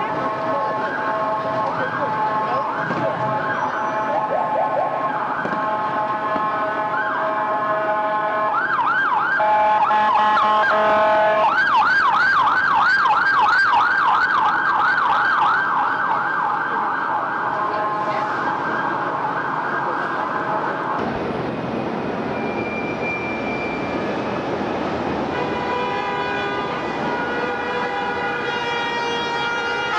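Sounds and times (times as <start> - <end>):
emergency siren yelping: 0.0 - 21.0, 26.7 - 29.9
city traffic noise: 0.0 - 29.9.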